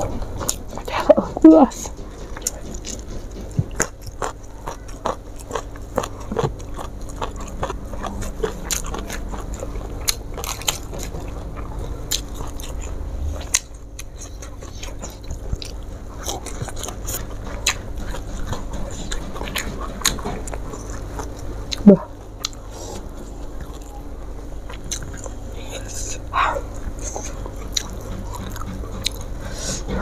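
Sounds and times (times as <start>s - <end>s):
person chewing raw vegetables: 0.0s - 30.0s.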